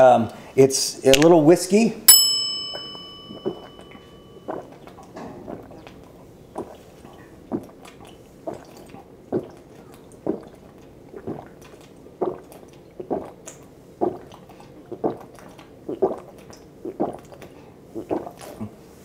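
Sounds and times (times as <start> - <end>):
person gulping from bottle: 3.4 - 18.9.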